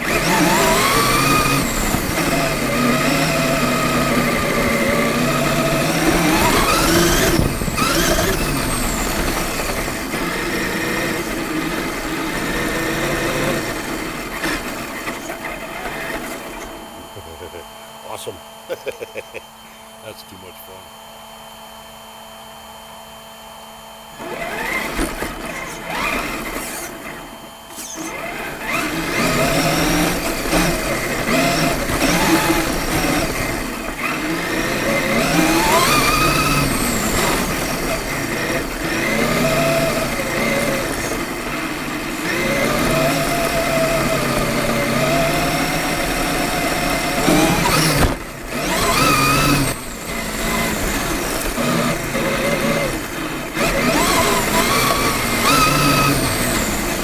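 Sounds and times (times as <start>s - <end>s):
rc truck electric motor whining: 0.0s - 20.0s, 20.7s - 57.0s.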